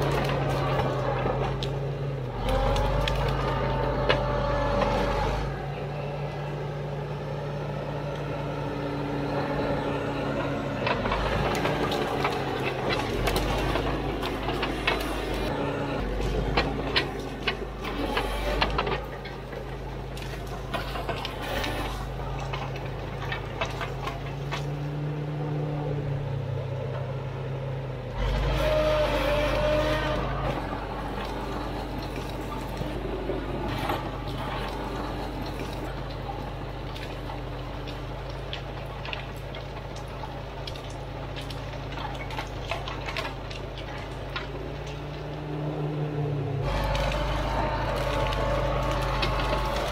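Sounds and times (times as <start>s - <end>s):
brush cracking and snapping: 0.0s - 5.5s, 9.9s - 25.3s, 28.1s - 49.9s
bulldozer diesel engine running: 0.0s - 49.9s.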